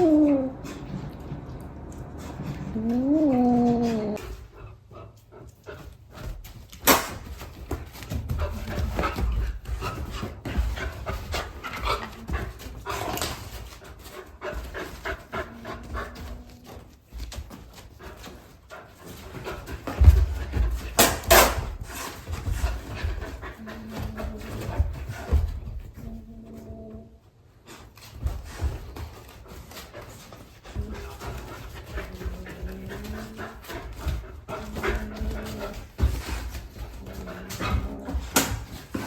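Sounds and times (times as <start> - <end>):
dog panting: 0.0 - 26.3, 27.6 - 39.0.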